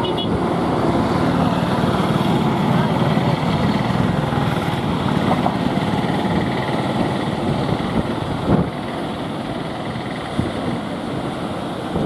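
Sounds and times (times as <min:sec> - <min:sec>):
diesel locomotive engine running: 0:00.0 - 0:12.0
wind: 0:00.0 - 0:12.0.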